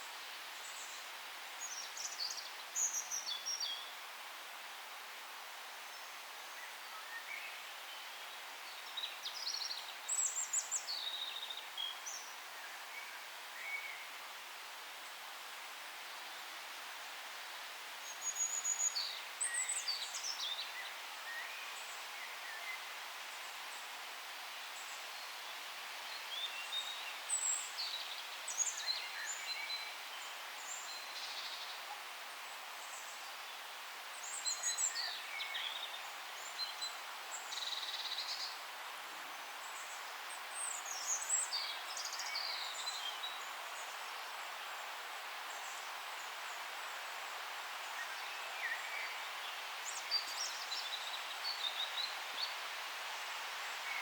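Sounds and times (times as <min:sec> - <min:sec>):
steady soft hiss: 0:00.0 - 0:54.0.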